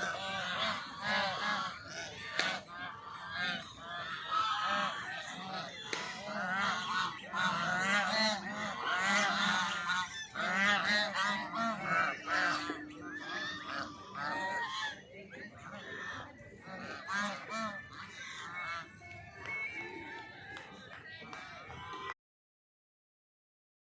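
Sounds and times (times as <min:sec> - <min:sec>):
geese honking: 0:00.0 - 0:21.4.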